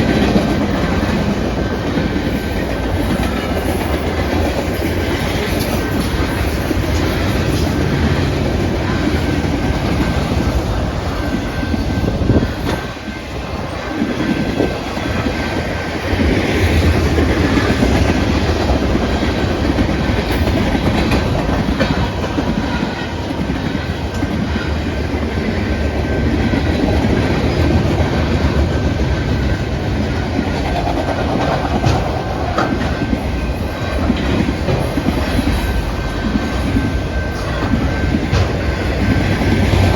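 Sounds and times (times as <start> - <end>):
freight train cars rumbling past: 0.0 - 39.9
wheels clacking over rail joints: 0.0 - 39.9.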